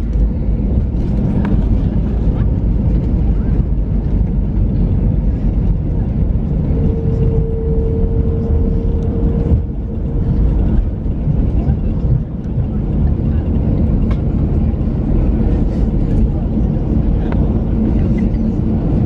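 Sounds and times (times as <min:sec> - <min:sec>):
engine and wheel rumble: 0:00.0 - 0:19.0
mid-pitched hum: 0:00.0 - 0:19.0.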